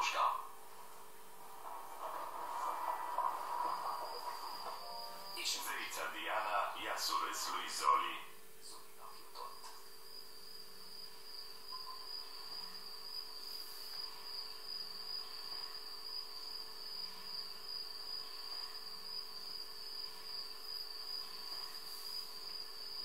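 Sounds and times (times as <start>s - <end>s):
crickets chirring: 0.0s - 23.0s
faint hum: 0.0s - 23.0s.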